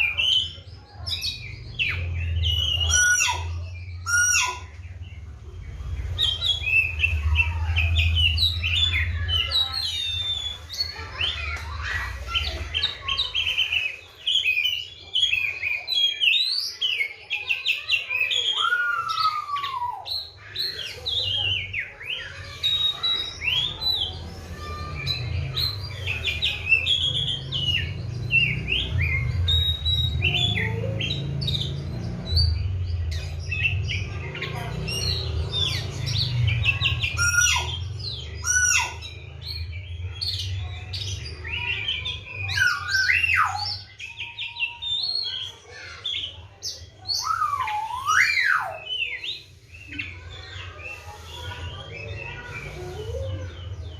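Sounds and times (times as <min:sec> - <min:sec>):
songbird whistling and chirping: 0:00.0 - 0:05.0, 0:06.2 - 0:53.9.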